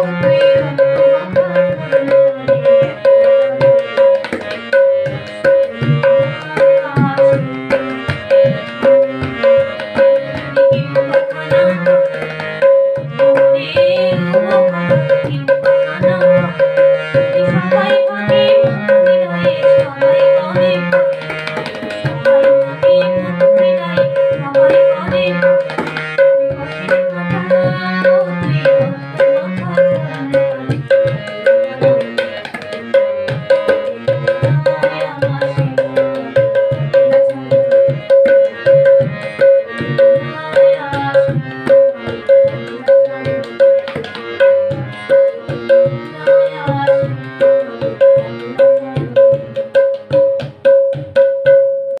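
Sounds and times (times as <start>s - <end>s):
tabla bass strokes bending pitch: 0.0s - 52.0s
tabla ringing strokes: 0.0s - 52.0s.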